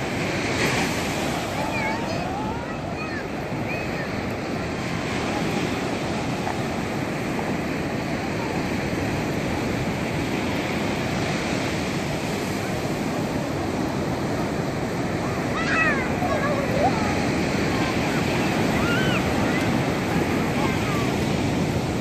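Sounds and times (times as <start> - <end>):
sea surf on a beach: 0.0 - 22.0.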